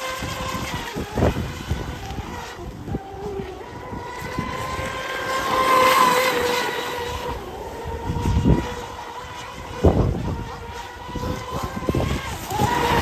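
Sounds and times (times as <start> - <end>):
electric boat motor whine: 0.0 - 13.0
wind rumbling on microphone: 0.0 - 13.0.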